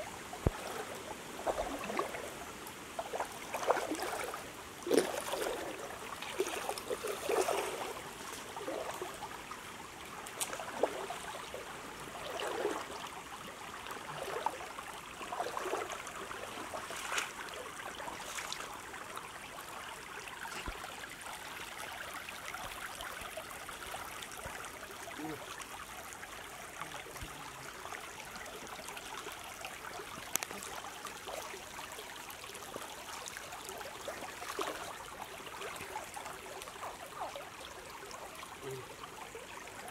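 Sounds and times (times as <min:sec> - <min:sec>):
water splashing: 0:00.0 - 0:09.3, 0:10.2 - 0:13.1, 0:13.9 - 0:26.2, 0:26.8 - 0:39.9
stream flowing over pebbles: 0:00.0 - 0:39.9.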